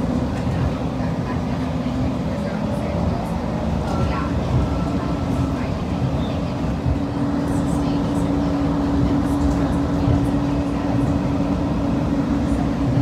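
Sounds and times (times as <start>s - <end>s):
constant low hum: 0.0s - 13.0s
train cabin rumble: 0.0s - 13.0s.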